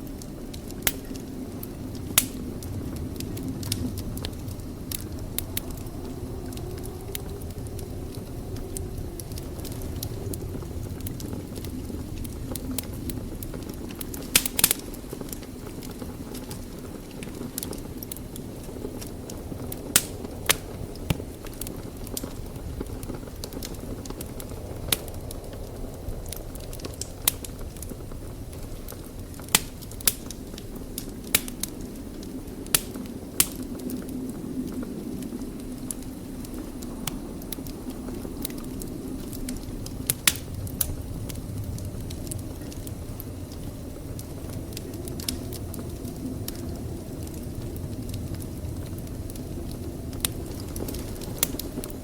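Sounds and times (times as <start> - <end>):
fire rumbling: 0.0 - 52.0
wood fire crackling: 0.0 - 52.0
sharp fire pops: 0.2 - 5.9, 6.5 - 52.0.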